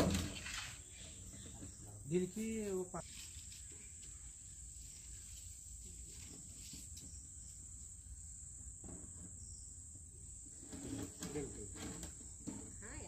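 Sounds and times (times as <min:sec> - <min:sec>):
insects trilling: 0:00.3 - 0:13.0.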